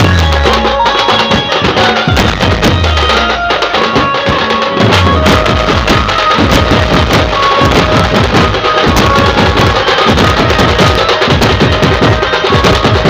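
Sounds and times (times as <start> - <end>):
deep booming bass drum: 0.0 - 3.3, 4.8 - 13.0
fast dense drumming: 0.0 - 13.0
sustained melodic line: 0.0 - 13.0.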